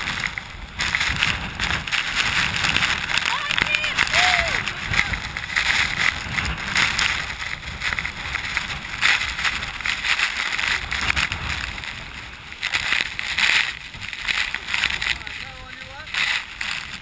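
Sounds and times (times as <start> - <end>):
water splashing with paddle strokes: 0.0 - 17.0
wind rumble on microphone: 0.0 - 17.0.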